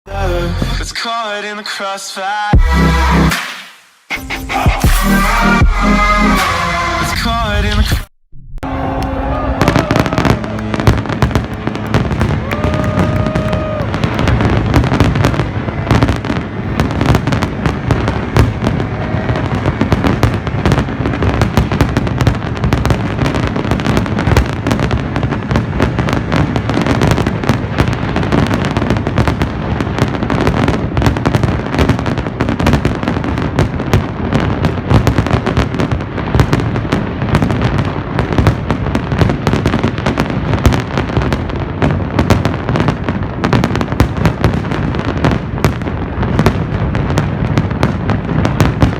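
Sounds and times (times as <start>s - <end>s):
fireworks bangs and crackling: 0.1s - 48.9s.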